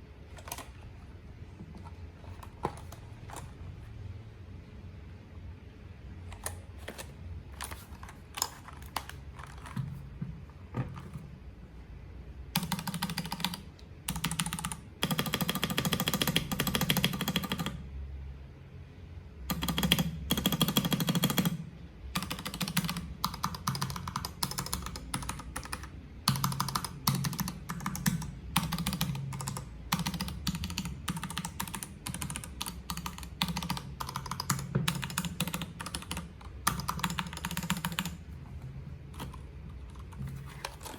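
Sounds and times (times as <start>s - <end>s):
mechanical keyboard typing: 0.2s - 3.8s, 6.2s - 11.3s, 12.5s - 17.9s, 19.4s - 40.9s.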